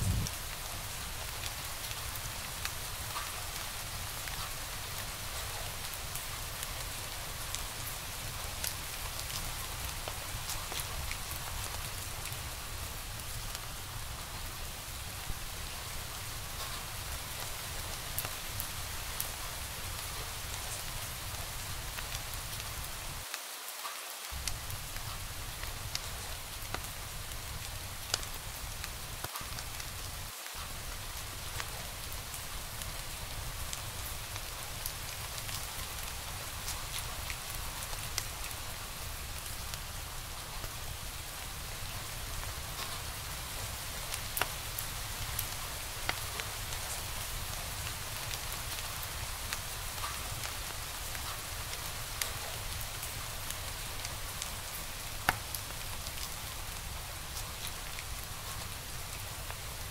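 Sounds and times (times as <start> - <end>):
wood fire crackling: 0.0 - 23.3, 24.3 - 59.9.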